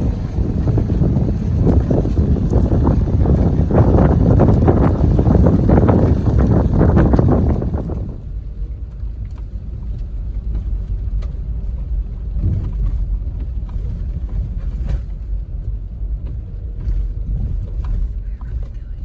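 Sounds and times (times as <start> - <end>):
engine low rumble: 0.0 - 19.0.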